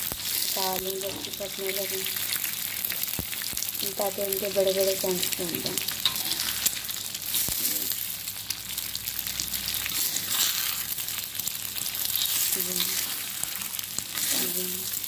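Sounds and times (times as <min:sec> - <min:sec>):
eggs sizzling in hot oil: 0:00.0 - 0:15.0
oil crackling and spattering: 0:00.0 - 0:15.0.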